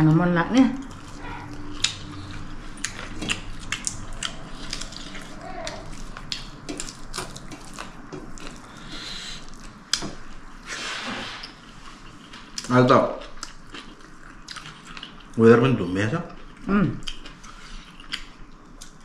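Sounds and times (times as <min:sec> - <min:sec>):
chewing: 0:00.8 - 0:10.4, 0:11.4 - 0:15.4, 0:16.3 - 0:19.0.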